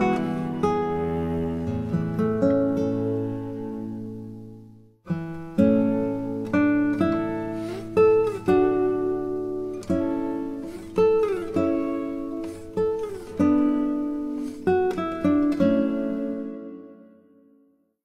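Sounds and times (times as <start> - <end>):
plucked string chords: 0.0 - 17.0.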